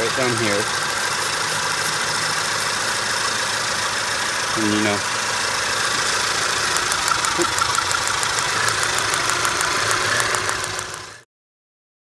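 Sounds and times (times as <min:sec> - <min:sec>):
sharp electrical ticking: 0:00.0 - 0:04.6, 0:05.7 - 0:11.2
car engine idling: 0:00.0 - 0:11.2.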